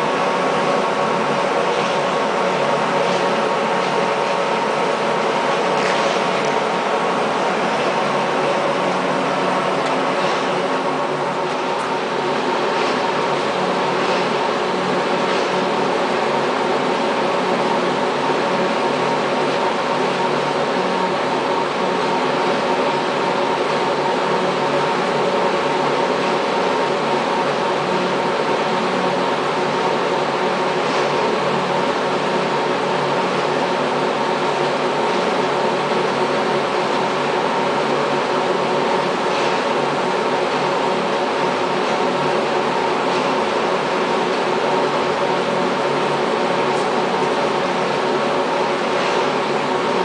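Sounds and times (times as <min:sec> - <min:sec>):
lathe running: 0:00.0 - 0:50.0.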